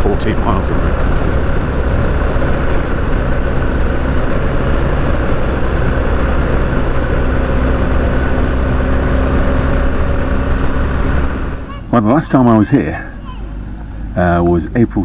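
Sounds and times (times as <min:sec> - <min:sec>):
rushing wind noise: 0:00.0 - 0:12.1
motorcycle engine cruising: 0:00.0 - 0:15.0.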